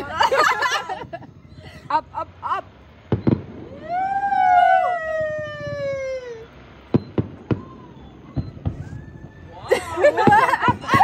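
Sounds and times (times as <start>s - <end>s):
distant fireworks bangs: 0.0s - 4.5s, 5.1s - 11.0s.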